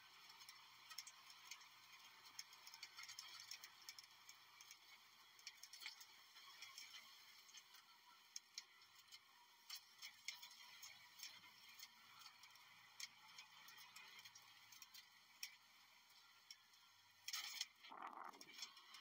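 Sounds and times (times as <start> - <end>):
faint ticks and clicks: 0.0 - 19.0.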